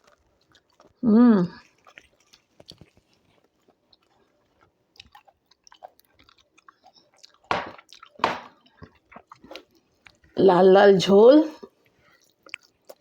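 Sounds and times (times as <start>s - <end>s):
person chewing: 0.0s - 10.4s, 11.7s - 13.0s.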